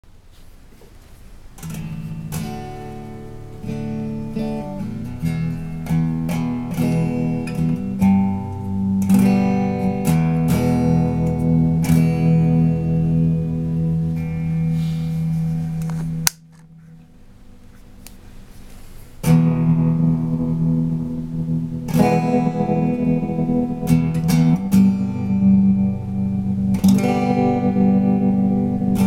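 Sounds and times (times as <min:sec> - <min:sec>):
guitar strumming chords: 0:01.6 - 0:29.0.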